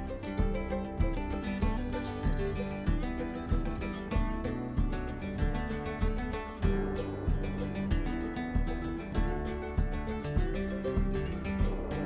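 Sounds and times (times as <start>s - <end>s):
plucked guitar music with beat: 0.0s - 12.0s.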